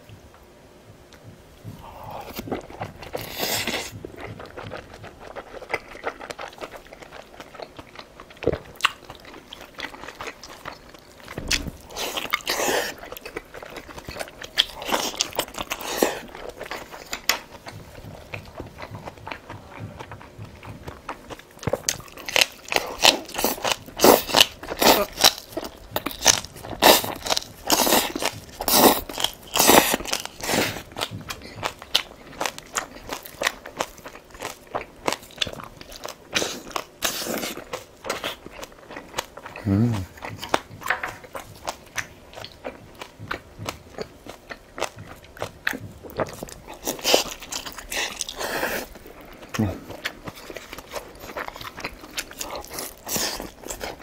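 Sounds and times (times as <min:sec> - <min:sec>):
soft chewing: 0:00.0 - 0:54.0.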